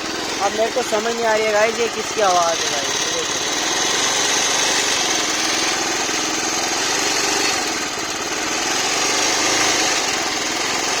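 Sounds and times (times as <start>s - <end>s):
engine noise: 0.0s - 11.0s
motorcycle engine idling: 0.0s - 11.0s.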